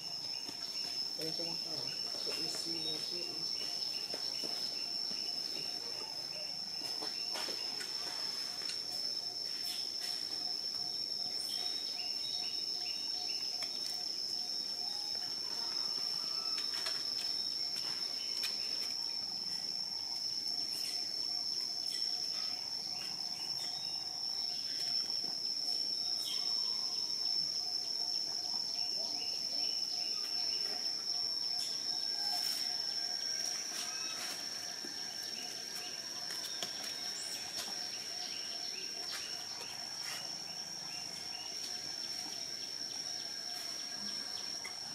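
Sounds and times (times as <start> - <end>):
high-pitched insect drone: 0.0 - 44.9
low pulsing insect trill: 0.0 - 44.9.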